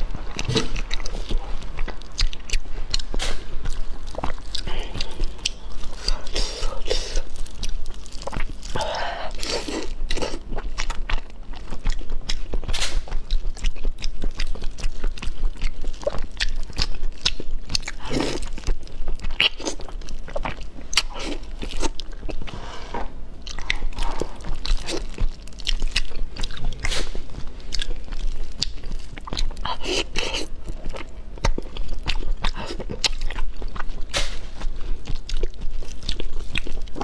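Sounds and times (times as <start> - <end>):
person chewing fish: 0.0 - 22.5, 23.4 - 37.0
wet crunching and clicks: 0.3 - 22.4, 23.4 - 37.0.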